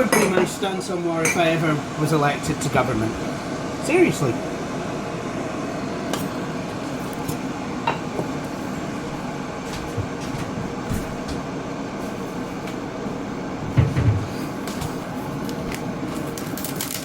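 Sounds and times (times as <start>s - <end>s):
electric kettle heating water: 0.0s - 17.0s.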